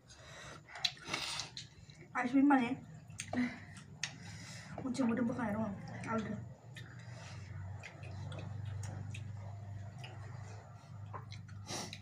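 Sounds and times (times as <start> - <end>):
low steady hum: 0.0 - 12.0
people eating with hands: 0.0 - 12.0.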